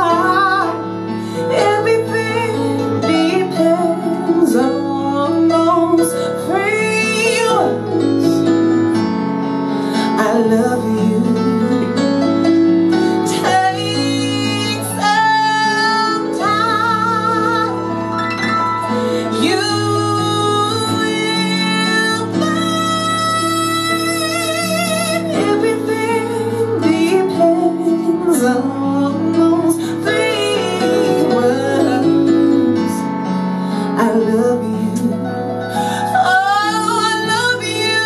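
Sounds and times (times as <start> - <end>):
woman singing jazz with vibrato: 0.0 - 8.5, 10.0 - 12.2, 13.2 - 18.2, 18.9 - 33.2, 33.9 - 38.0.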